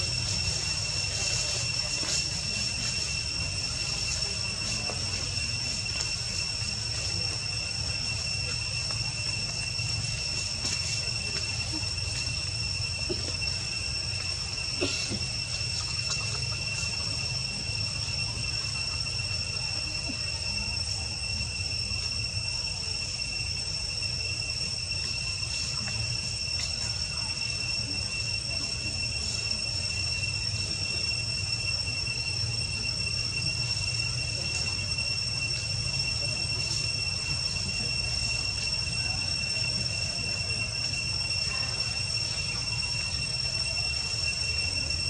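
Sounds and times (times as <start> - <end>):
high-pitched insect drone: 0.0 - 45.0.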